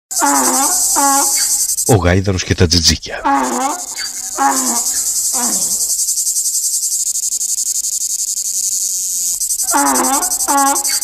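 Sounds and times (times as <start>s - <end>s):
cicadas buzzing: 0.1s - 11.0s.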